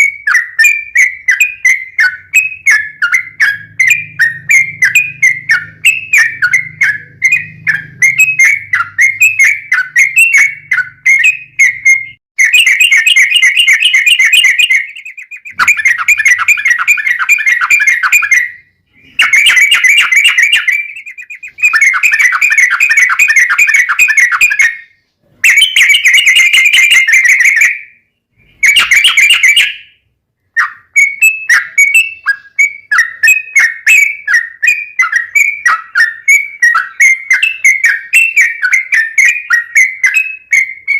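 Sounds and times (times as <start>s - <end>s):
bulbul whistled chirps: 0.0s - 40.9s.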